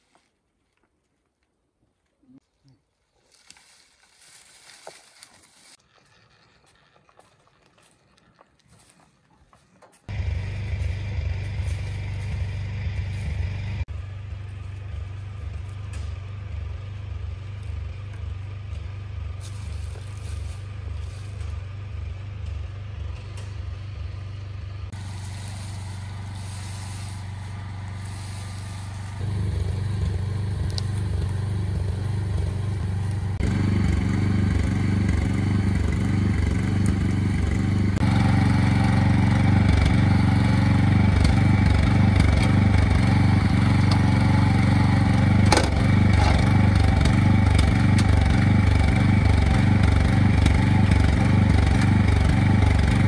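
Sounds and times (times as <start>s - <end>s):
small engine pulsing: 5.7s - 8.9s, 10.1s - 53.0s.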